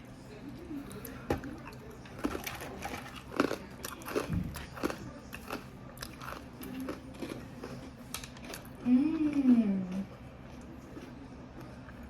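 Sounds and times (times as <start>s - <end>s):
crunchy chips being chewed: 0.9s - 12.0s.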